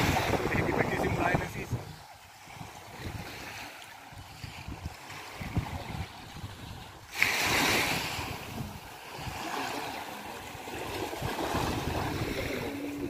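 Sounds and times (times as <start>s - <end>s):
wind buffeting microphone: 0.0s - 9.6s, 10.4s - 13.0s
small waves washing onto sand: 0.0s - 13.0s.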